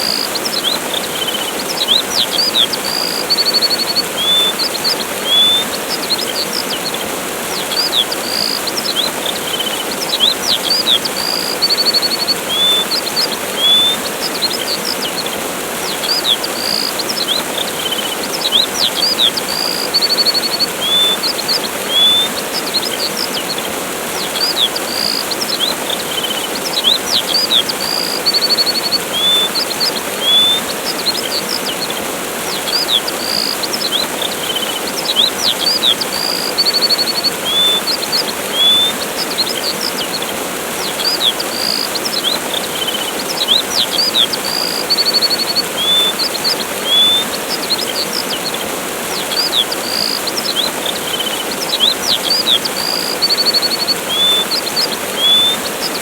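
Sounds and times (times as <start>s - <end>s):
birds chirping and trilling: 0.0s - 56.0s
waterfall rushing: 0.0s - 56.0s.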